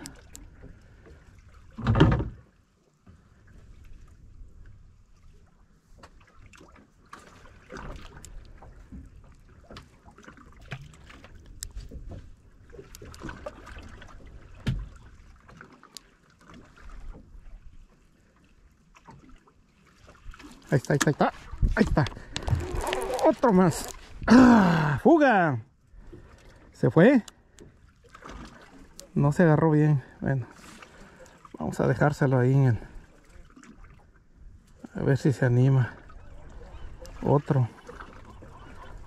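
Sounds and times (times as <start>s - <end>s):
water sloshing against boat hull: 0.0s - 39.0s.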